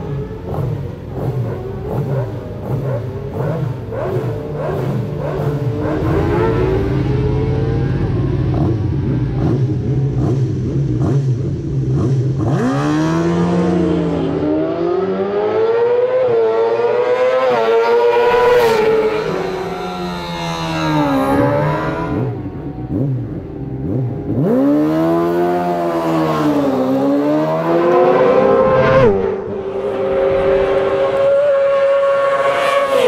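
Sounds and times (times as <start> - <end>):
engine idling and revving: 0.0 - 33.0.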